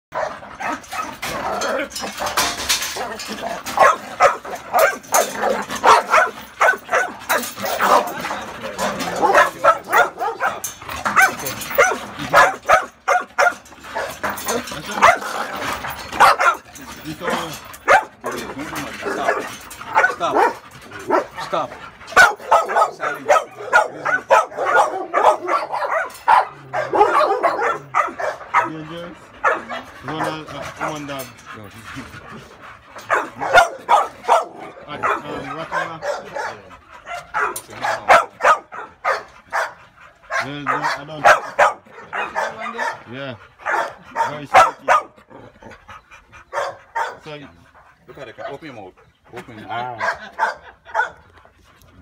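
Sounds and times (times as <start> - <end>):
dogs barking aggressively: 0.1 - 52.0.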